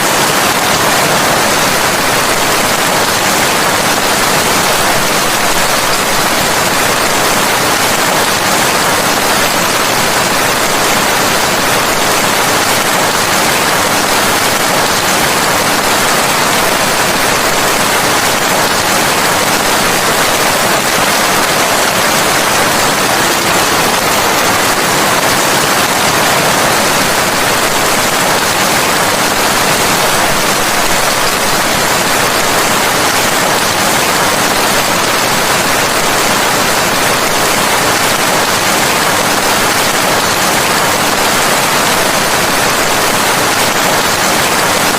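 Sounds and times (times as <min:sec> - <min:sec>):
loud steady rain: 0:00.0 - 0:44.9.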